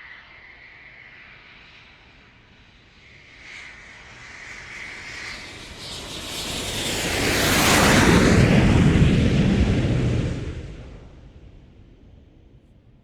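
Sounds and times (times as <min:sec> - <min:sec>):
jet aircraft roar: 0:00.0 - 0:12.9.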